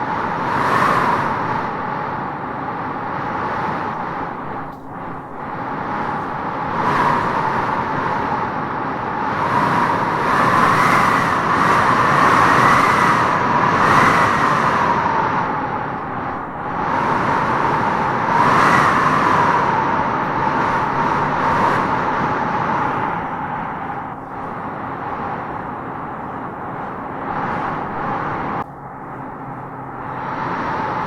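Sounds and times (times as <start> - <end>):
wind howling through trees: 0.0 - 31.0.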